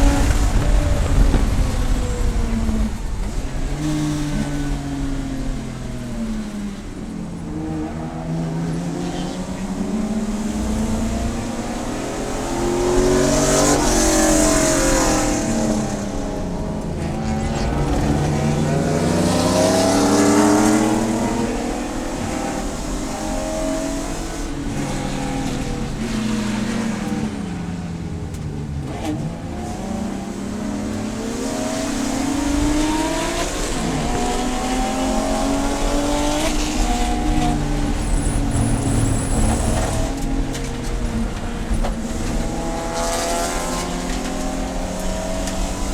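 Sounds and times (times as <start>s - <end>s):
race car engine accelerating: 0.0s - 45.9s.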